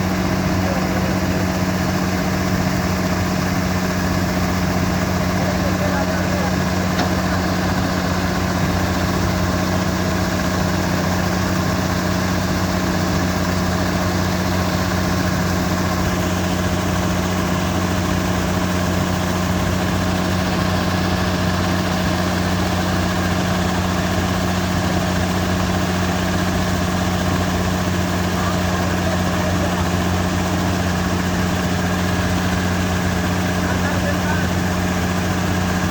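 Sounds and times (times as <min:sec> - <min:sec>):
diesel engine droning: 0:00.0 - 0:35.9.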